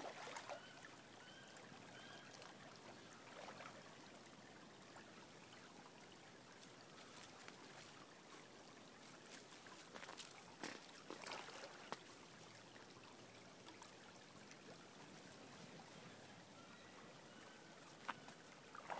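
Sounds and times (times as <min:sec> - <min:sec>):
small stream rushing: 0:00.0 - 0:18.9.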